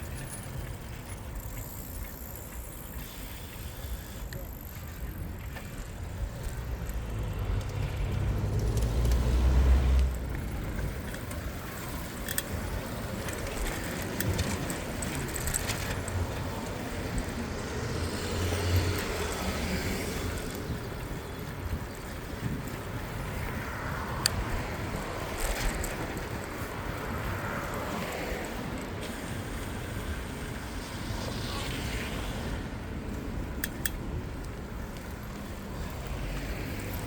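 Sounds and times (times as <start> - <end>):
bike metallic rattling and clicks: 0.0 - 37.0
motor vehicle rumble: 0.0 - 37.0
street noise: 0.0 - 37.0.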